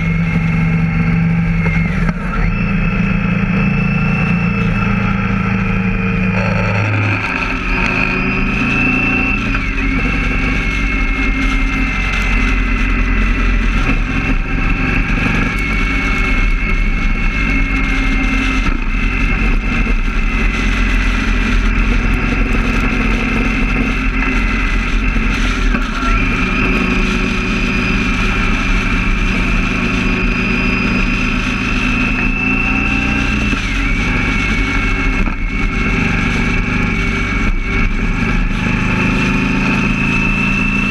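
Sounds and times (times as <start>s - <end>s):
high whistle: 0.0s - 36.1s
motorcycle engine: 0.0s - 40.9s
wind and road noise: 0.0s - 40.9s.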